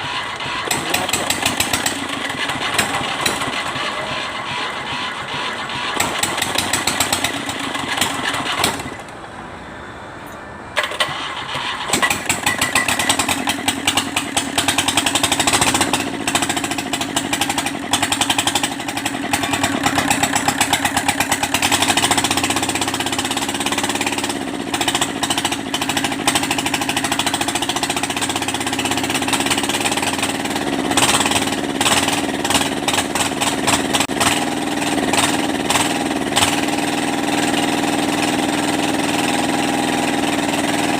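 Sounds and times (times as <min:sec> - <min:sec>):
diesel engine clattering: 0:00.0 - 0:09.6, 0:10.2 - 0:40.9.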